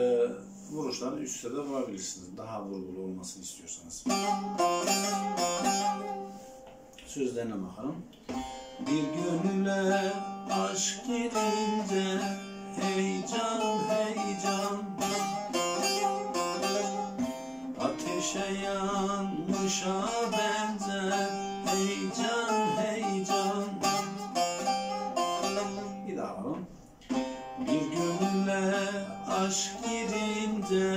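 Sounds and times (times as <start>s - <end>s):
plucked lute folk melody: 4.0s - 7.2s, 8.2s - 30.9s.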